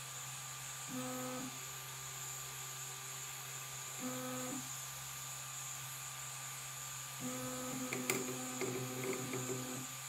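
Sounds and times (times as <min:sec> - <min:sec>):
cooling fans humming and whining: 0:00.0 - 0:10.0.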